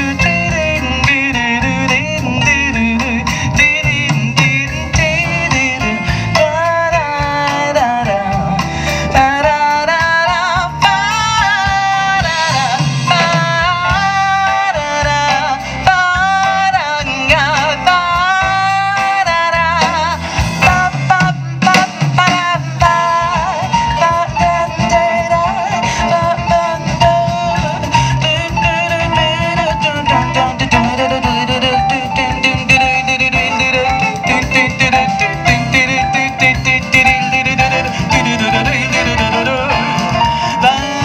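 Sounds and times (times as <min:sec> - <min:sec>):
drums: 0:00.0 - 0:41.0
electric bass: 0:00.0 - 0:41.0
jazz band playing: 0:00.0 - 0:41.0
keyboard: 0:00.0 - 0:41.0
woman singing: 0:00.0 - 0:41.0.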